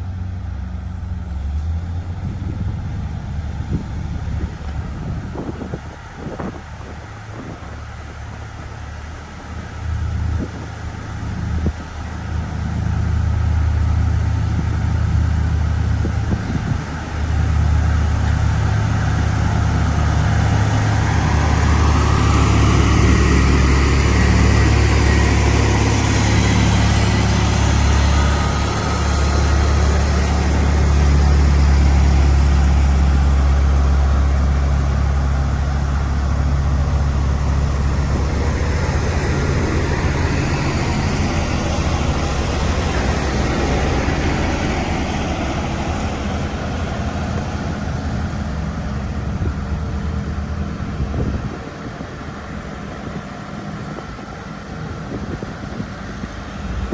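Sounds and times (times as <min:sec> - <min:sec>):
diesel engine running under load: 0:00.0 - 0:56.9.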